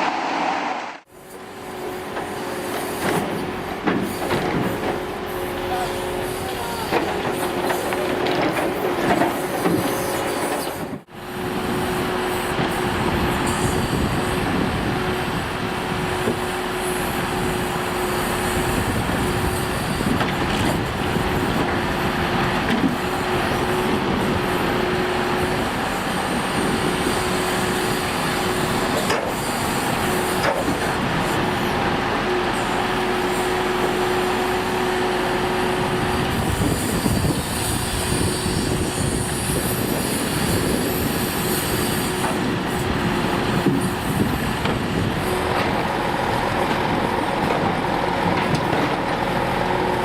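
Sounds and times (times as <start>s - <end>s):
hydraulic whine: 0.0s - 50.0s.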